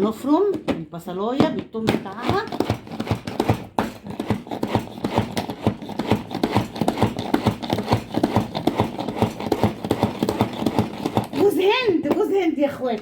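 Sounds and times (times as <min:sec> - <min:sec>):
food chopper knocking and clattering: 0:01.4 - 0:12.3.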